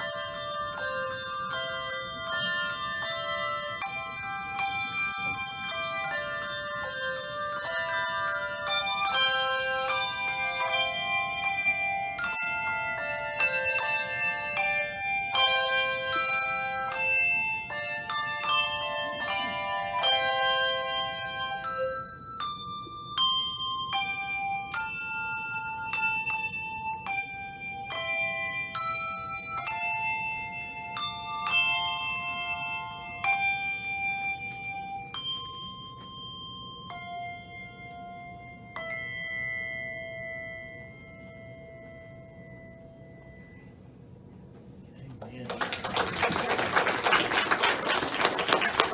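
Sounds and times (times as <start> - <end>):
handbells and handchimes ringing: 0.0 - 43.9, 45.4 - 48.9.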